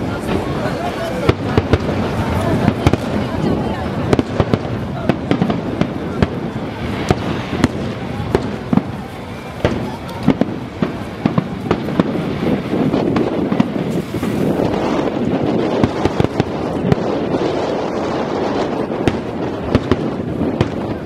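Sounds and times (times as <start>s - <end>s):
dense fireworks crackle: 0.0s - 21.0s
fireworks cracking and popping: 0.0s - 21.0s.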